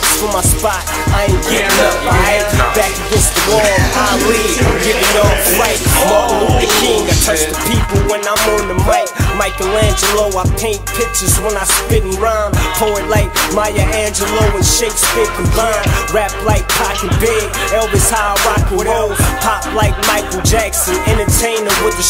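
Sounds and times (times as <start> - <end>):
hip hop music with drum beat: 0.0 - 22.0
vocal line: 0.9 - 10.4, 12.6 - 21.4.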